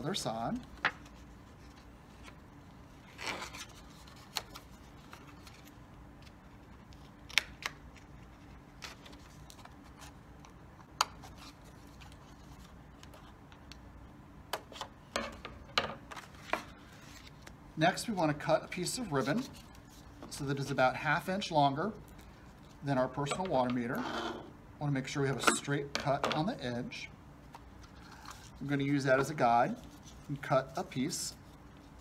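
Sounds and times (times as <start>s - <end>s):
faint room hum: 0.0s - 32.0s.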